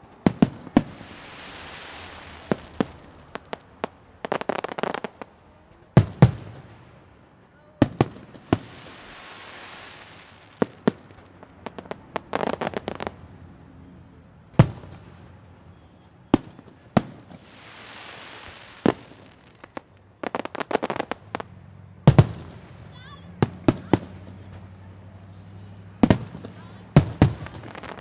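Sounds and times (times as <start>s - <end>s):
firework shells booming: 0.0s - 28.0s
fireworks hissing and crackling: 0.0s - 28.0s
small firework pops: 0.2s - 13.2s, 14.6s - 21.5s, 25.4s - 28.0s.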